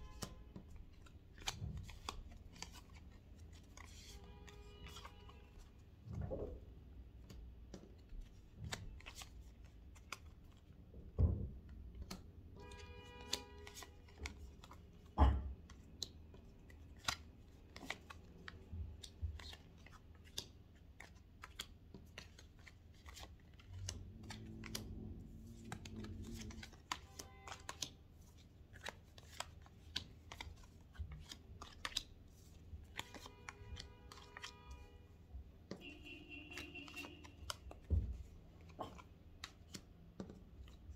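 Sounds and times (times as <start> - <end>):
cards being shuffled: 0.0 - 5.8, 7.2 - 10.7, 12.0 - 34.9, 36.5 - 40.9.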